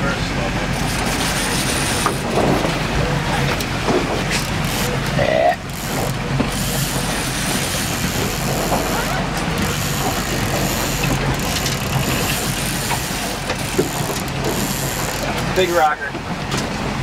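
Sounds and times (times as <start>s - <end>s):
boat engine droning: 0.0s - 17.0s
wind and water hiss: 0.0s - 17.0s.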